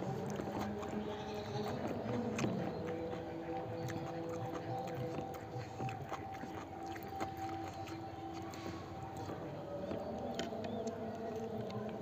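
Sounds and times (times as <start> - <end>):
light chewing: 0.0 - 12.0.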